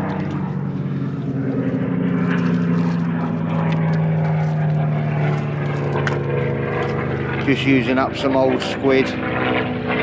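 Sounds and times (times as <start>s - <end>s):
propeller aircraft droning overhead: 0.0s - 10.0s.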